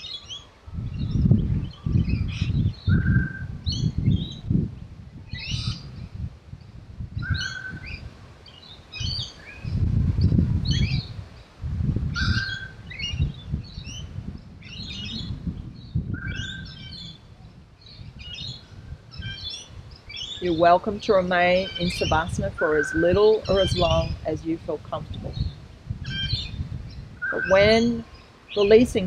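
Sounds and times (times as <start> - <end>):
birds singing: 0.0 - 4.6, 5.2 - 6.2, 7.2 - 24.4, 25.0 - 29.0
low rumble in gusts: 0.0 - 29.0.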